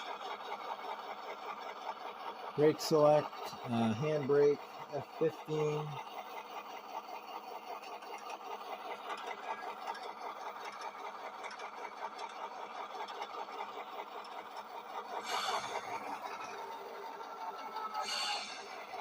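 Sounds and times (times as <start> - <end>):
model diesel engine sound chugging: 0.0 - 19.0.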